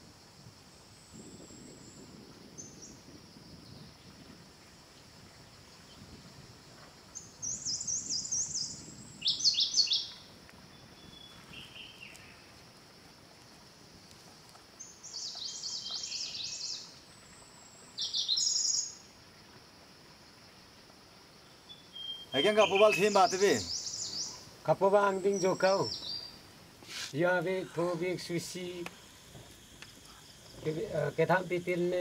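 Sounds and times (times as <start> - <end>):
faint high hiss: 0.0 - 32.0
songbird singing: 0.0 - 32.0.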